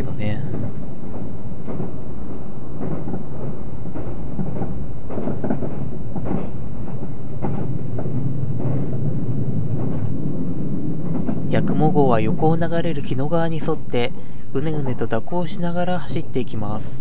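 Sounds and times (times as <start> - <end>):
knocks and rattles: 0.0 - 16.1
train cabin low rumble: 0.0 - 17.0.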